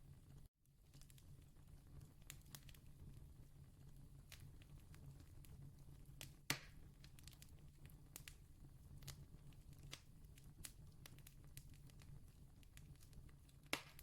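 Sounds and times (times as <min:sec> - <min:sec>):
campfire crackling and popping: 0:00.8 - 0:14.0.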